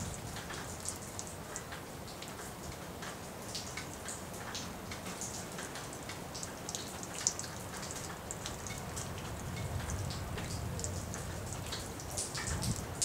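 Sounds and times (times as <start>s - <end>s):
rain falling: 0.0s - 13.0s
raindrops ticking: 0.0s - 13.0s.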